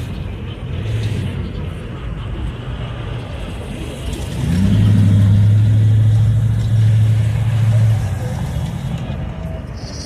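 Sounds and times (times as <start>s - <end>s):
car low rumble: 0.0s - 10.0s.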